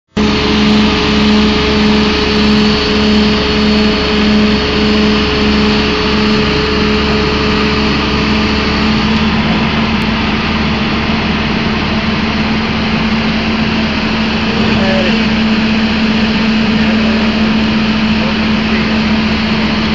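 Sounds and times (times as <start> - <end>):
excavator diesel engine under load: 0.0 - 19.9
low pulsing hydraulic hum: 0.0 - 19.9.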